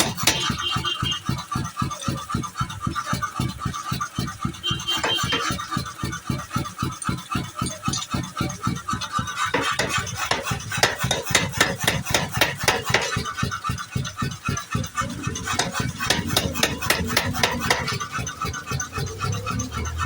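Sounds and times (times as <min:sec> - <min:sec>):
power hammer pounding steel: 0:00.0 - 0:20.0.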